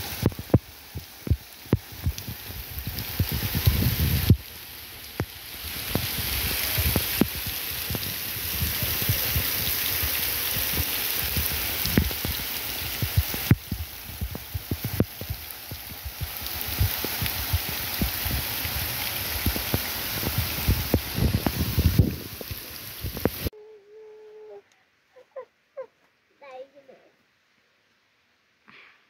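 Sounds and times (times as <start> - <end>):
waterfall splashing: 0.0 - 23.5.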